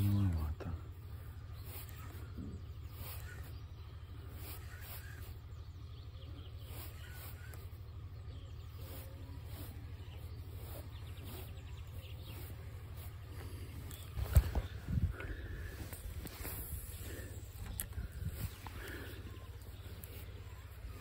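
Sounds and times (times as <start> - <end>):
faint birdsong: 0.0 - 21.0
low rumble: 0.0 - 21.0.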